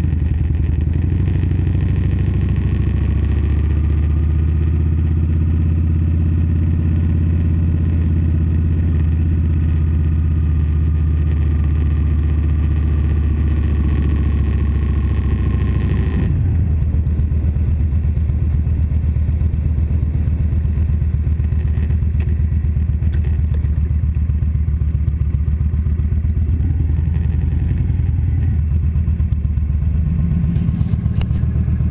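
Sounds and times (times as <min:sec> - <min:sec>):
motorcycle engine running: 0:00.0 - 0:31.9
wind and road noise: 0:00.0 - 0:31.9.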